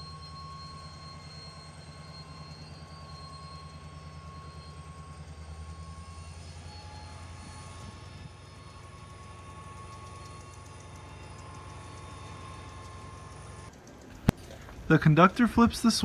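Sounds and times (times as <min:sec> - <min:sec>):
locomotive engine rumble: 0:00.0 - 0:16.0
thin steady whine: 0:00.0 - 0:16.0.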